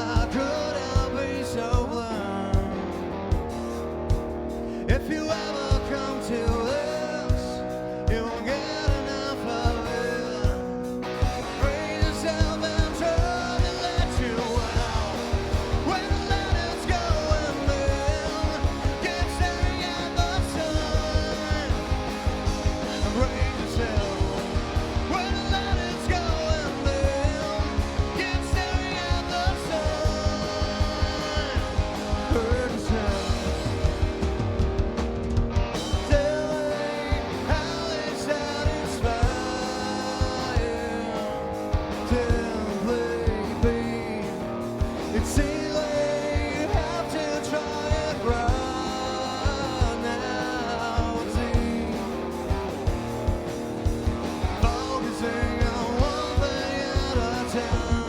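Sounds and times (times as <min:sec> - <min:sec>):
bass guitar: 0:00.0 - 0:58.0
electric guitar: 0:00.0 - 0:58.0
steady drum beat: 0:00.0 - 0:58.0.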